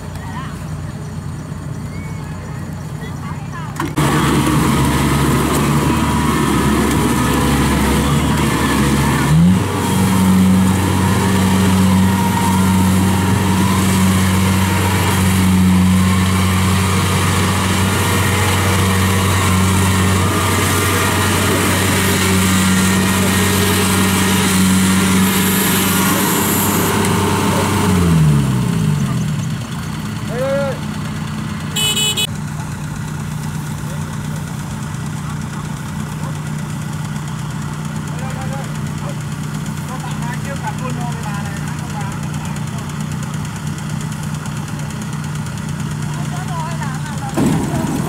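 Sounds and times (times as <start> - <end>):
combine harvester engine running: 0.0 - 48.0.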